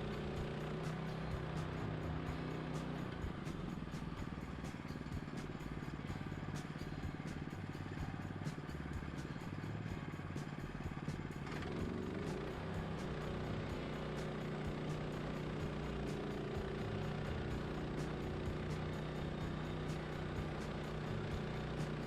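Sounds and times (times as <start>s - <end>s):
sawmill gas engine running: 0.0s - 22.0s.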